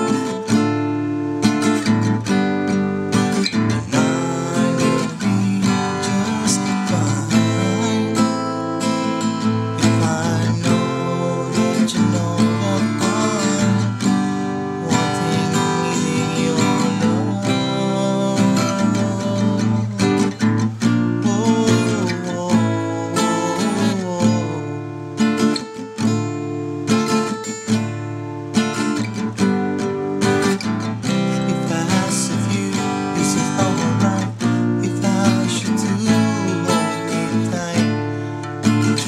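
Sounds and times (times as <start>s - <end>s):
acoustic guitar strummed chords: 0.0s - 39.0s.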